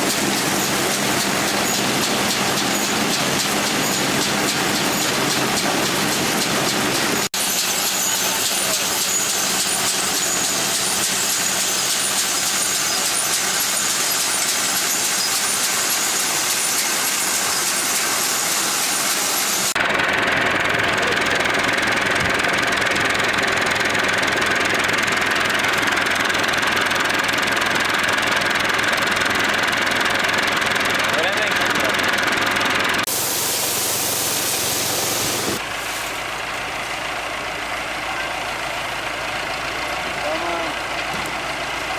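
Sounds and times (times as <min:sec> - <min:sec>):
farm harvesting machinery running: 0:00.0 - 0:41.9.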